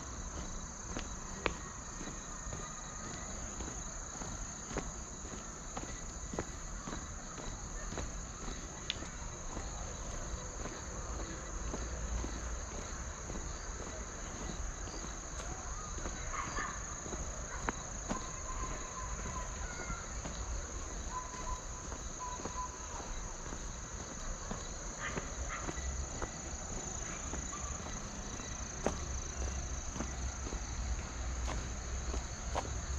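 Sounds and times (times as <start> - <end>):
footsteps on path: 0.0 - 32.9
insects chirping: 0.0 - 32.9.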